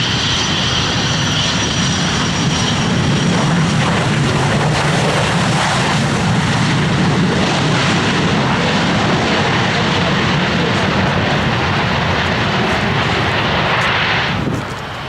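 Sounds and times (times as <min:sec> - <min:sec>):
airliner engines running: 0:00.0 - 0:15.0
high engine whine: 0:00.0 - 0:15.0.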